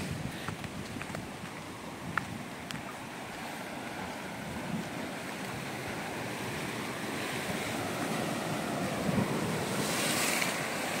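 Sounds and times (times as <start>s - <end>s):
surf washing against rocks: 0.0s - 11.0s
wind rumble on microphone: 0.0s - 11.0s.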